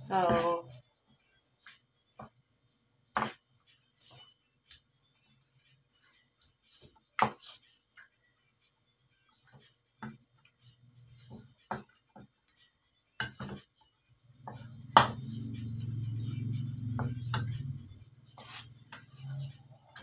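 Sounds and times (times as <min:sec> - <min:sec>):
wooden spatula scraping a wok: 0:00.0 - 0:01.6, 0:04.0 - 0:07.9, 0:08.5 - 0:20.0.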